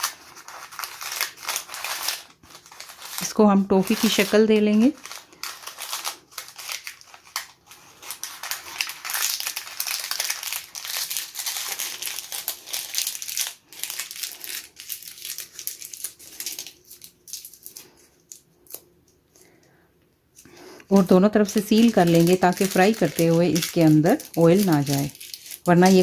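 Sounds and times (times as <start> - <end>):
paper crinkling: 0.0 - 19.6, 20.4 - 26.0.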